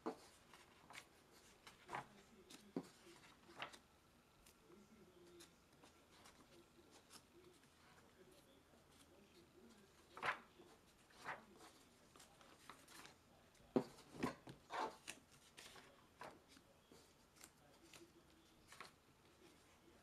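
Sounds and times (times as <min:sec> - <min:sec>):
paper pages rustling: 0:00.0 - 0:03.8, 0:04.4 - 0:20.0.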